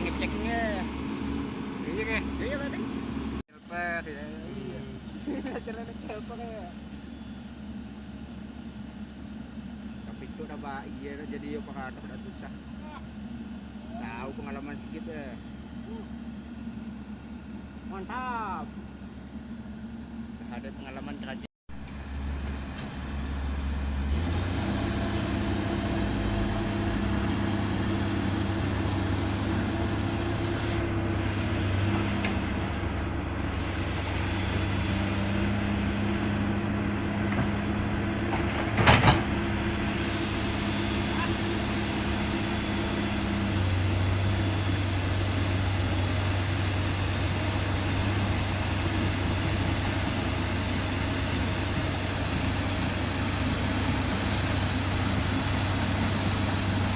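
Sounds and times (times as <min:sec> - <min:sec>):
excavator diesel engine running: 0:00.0 - 0:20.5, 0:21.7 - 0:56.9.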